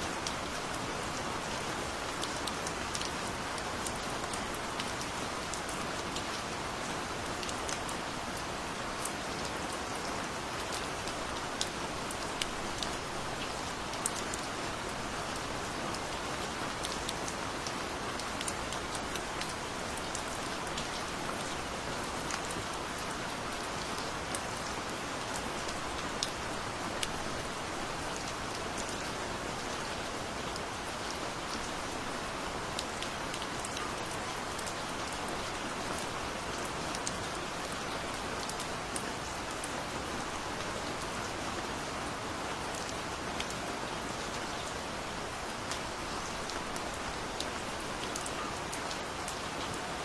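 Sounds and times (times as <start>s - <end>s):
gentle rain falling: 0.0s - 50.0s.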